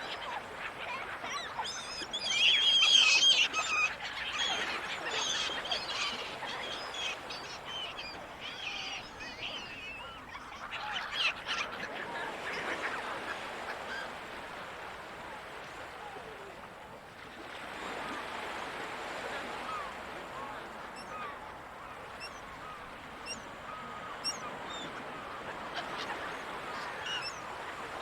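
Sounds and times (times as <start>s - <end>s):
gulls calling: 0.0s - 14.7s, 19.4s - 28.0s
sea noise: 0.0s - 28.0s.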